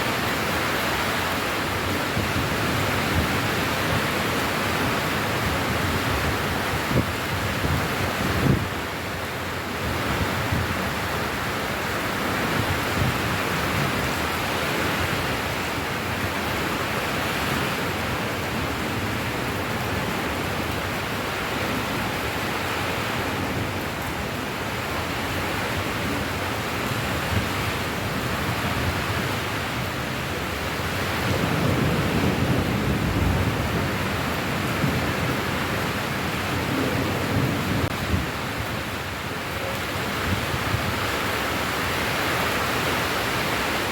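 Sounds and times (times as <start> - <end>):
heavy rain: 0.0 - 43.9
thunder rumbling: 0.3 - 41.4.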